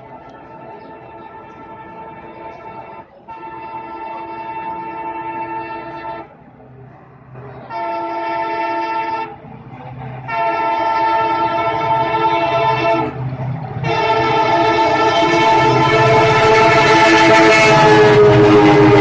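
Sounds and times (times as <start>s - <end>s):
train rumbling: 0.0s - 19.0s
locomotive air horn blasts: 0.2s - 6.3s, 7.7s - 9.4s, 10.2s - 13.1s, 13.8s - 19.0s.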